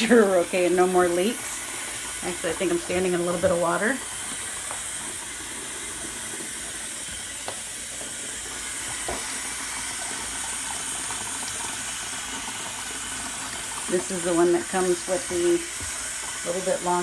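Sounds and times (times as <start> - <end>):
water running from a hose: 0.0 - 17.0.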